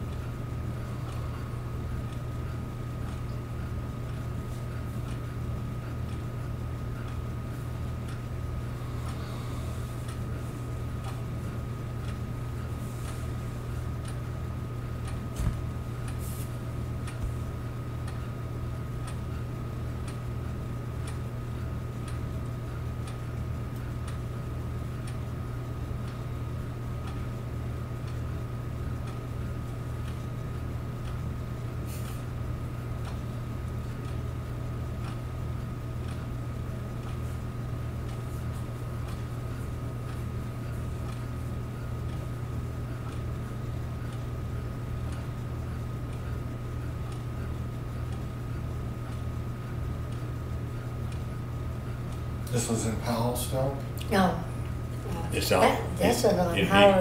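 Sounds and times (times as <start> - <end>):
film projector running: 0.0 - 57.0.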